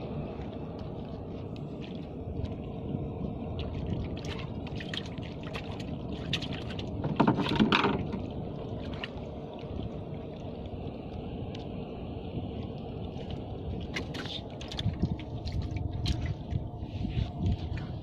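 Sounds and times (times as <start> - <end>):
water splashing: 0.0 - 11.7, 12.5 - 16.9
low rumble: 0.0 - 18.0.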